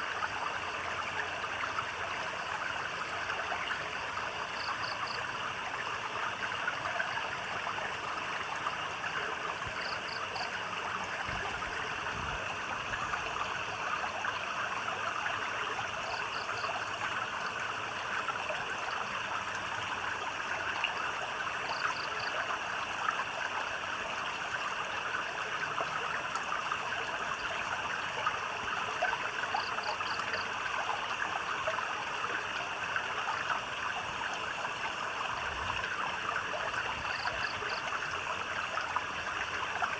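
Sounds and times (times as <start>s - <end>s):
night insects droning: 0.0s - 39.9s
stream trickling: 0.0s - 39.9s.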